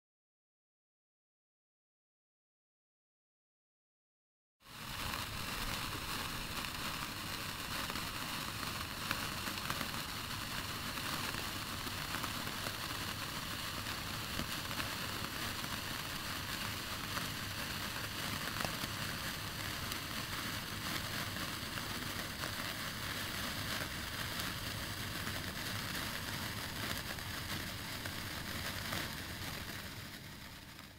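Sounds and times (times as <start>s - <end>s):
sparklers fizzing and crackling: 4.6s - 30.9s.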